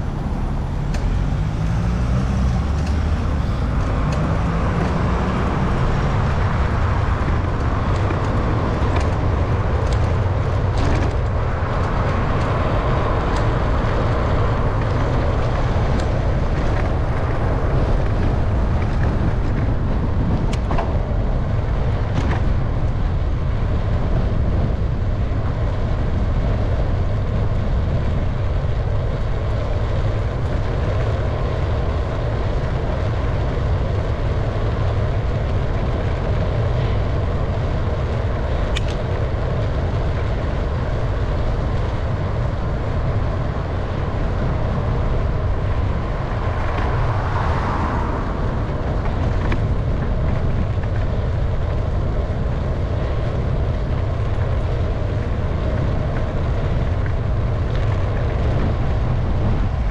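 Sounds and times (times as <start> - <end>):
road and tyre noise: 0.0 - 59.9
wind rumble on microphone: 0.0 - 59.9.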